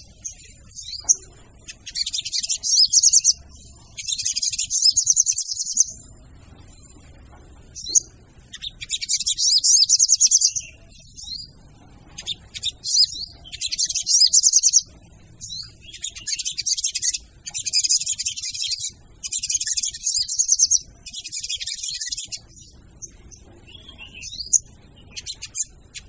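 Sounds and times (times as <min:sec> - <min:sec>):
bird chittering: 0:00.0 - 0:26.0.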